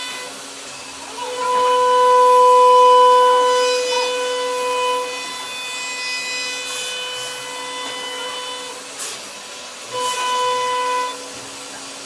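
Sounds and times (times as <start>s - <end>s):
router spindle cutting wood: 0.0s - 12.0s.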